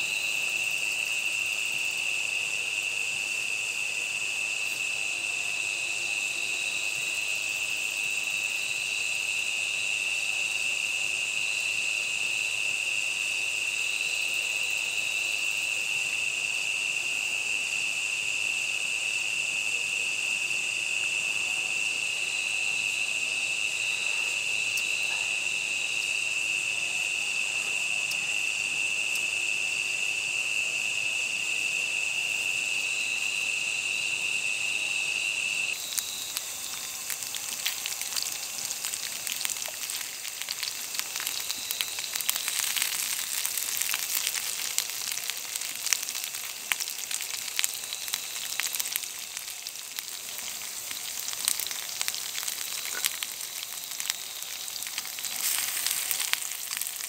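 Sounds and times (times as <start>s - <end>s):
insects shrilling: 0.0s - 57.0s.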